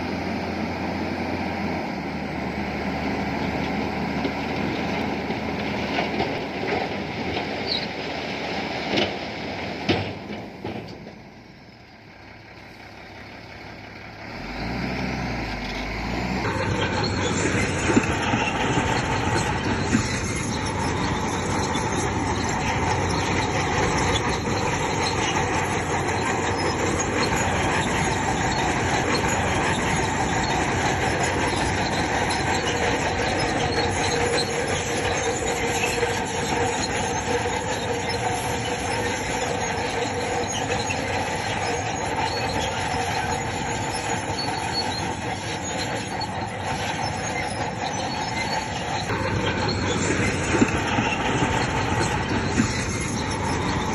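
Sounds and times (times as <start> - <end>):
bulldozer diesel engine running: 0.0 - 53.9
steel tracks grinding: 0.0 - 53.9.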